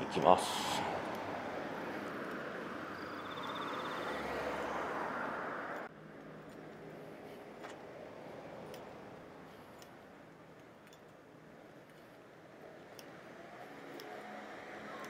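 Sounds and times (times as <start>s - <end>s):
car traffic passing: 0.0s - 15.0s
street ambience: 0.0s - 15.0s.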